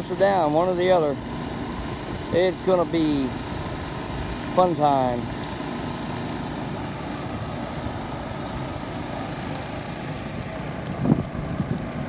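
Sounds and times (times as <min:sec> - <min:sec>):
small pump engine running: 0:00.0 - 0:12.0.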